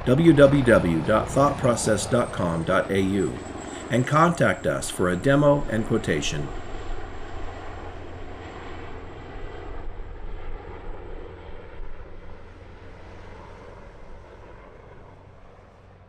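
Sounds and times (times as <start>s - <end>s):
helicopter rotor and engine drone: 0.0s - 16.0s.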